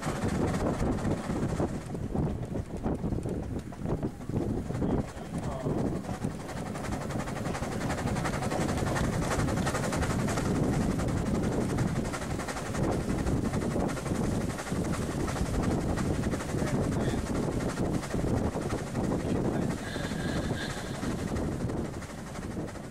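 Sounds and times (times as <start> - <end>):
steam car running on tarmac: 0.0 - 22.9.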